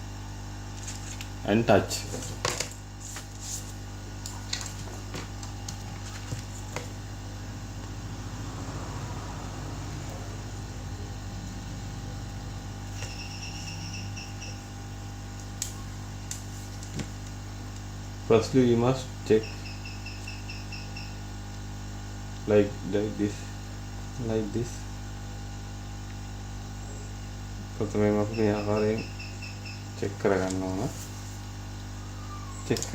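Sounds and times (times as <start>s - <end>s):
electrical hum: 0.0s - 32.9s.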